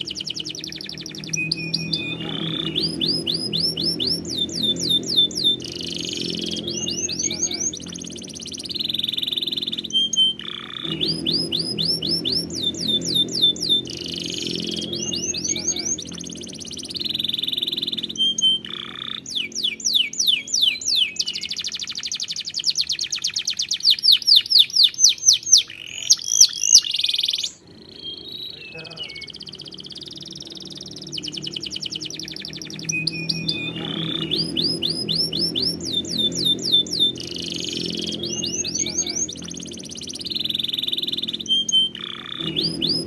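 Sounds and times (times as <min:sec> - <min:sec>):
canary singing: 0:00.0 - 0:43.0.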